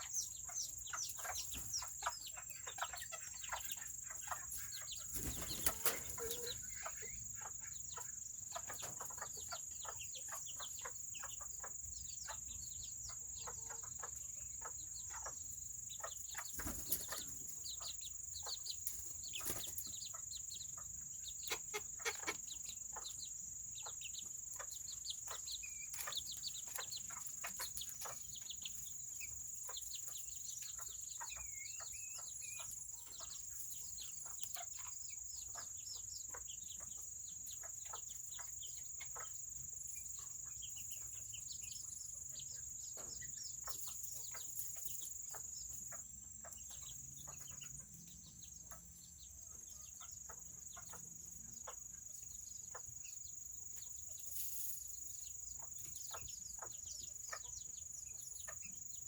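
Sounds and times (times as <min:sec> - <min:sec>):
chickens clucking: 0:00.0 - 0:59.0
chicks chirping: 0:00.0 - 0:59.0
patter of small ticks: 0:00.0 - 0:59.0.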